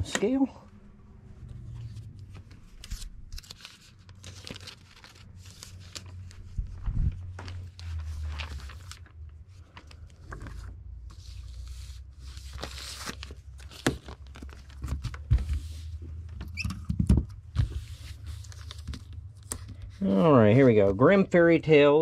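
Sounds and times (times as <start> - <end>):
plastic and paper rustling: 1.6 - 16.1, 17.1 - 21.0.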